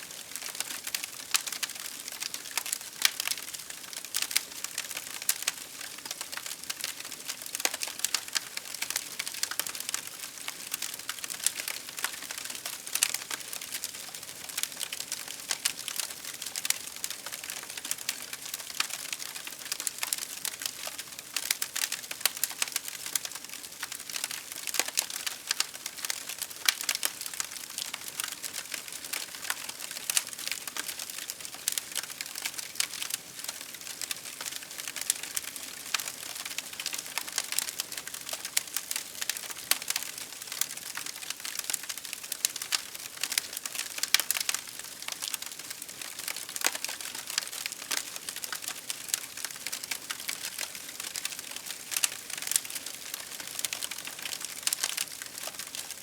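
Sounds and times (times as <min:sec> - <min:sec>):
wood fire crackling: 0:00.2 - 0:56.0.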